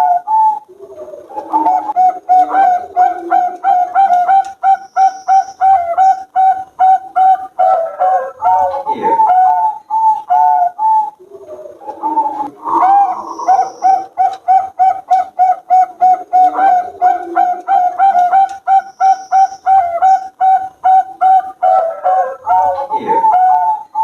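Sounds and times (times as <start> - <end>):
dove cooing: 0.0 - 24.0
fainter lower dove cooing: 0.0 - 24.0.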